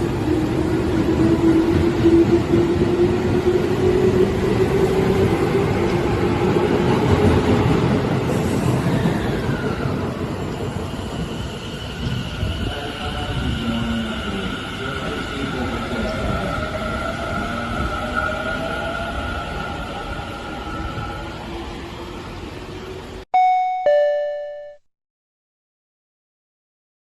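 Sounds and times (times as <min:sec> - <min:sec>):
electric train rumbling: 0:00.0 - 0:23.2.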